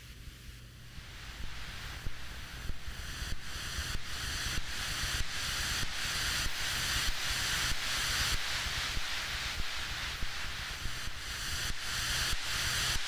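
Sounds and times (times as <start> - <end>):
pulsing wind-like hiss: 0.0 - 13.0
steady low hum: 0.0 - 13.0.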